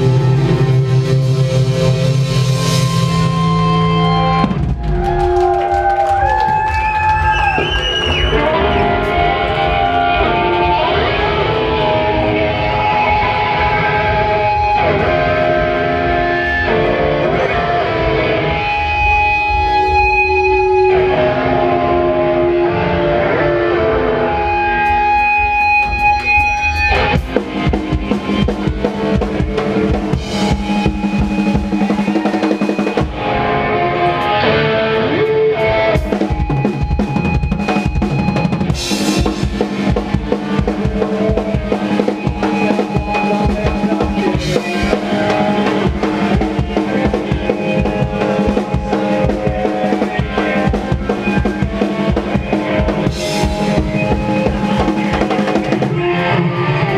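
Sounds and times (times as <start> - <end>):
drum kit: 0.0 - 21.6, 24.6 - 34.4, 35.6 - 56.2
bass guitar: 0.0 - 56.9
electric guitars: 0.0 - 56.9.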